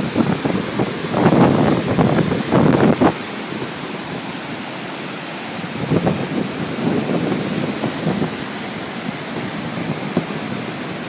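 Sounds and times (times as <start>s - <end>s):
waterfall roaring: 0.0s - 11.0s
wind buffeting microphone: 0.0s - 11.0s.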